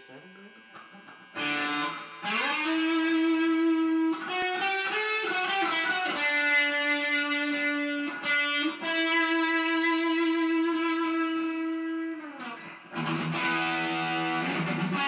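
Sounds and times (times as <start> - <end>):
electric guitar sliding notes: 0.0 - 15.0.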